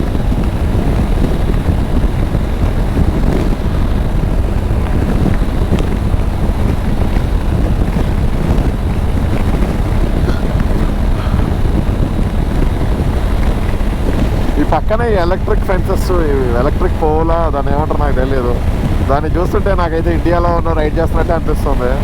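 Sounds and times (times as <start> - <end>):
motorcycle engine drone: 0.0 - 22.0
wind rushing over microphone: 0.0 - 22.0.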